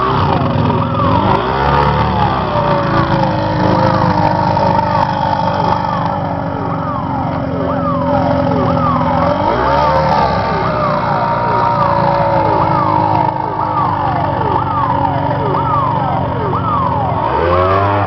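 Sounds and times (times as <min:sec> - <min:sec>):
powerboat engines at high revs: 0:00.0 - 0:18.0.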